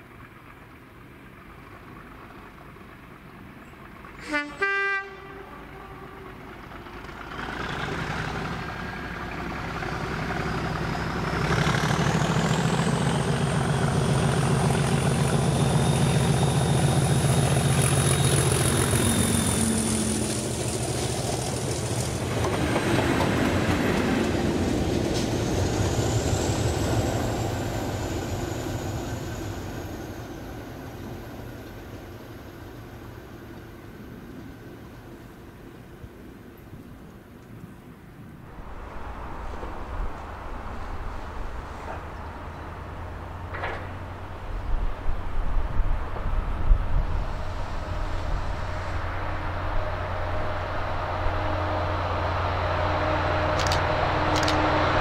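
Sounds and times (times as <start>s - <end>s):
diesel locomotive engine: 0.0s - 55.0s
wagons rumbling over rails: 0.0s - 55.0s.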